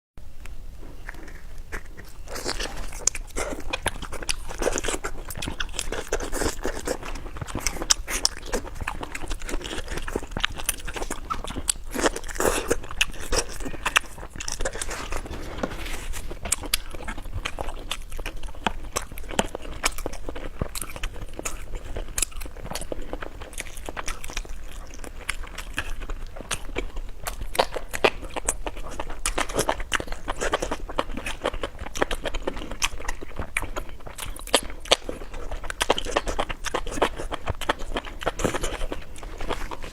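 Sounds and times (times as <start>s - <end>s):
person chewing crunchy food: 0.8s - 39.9s.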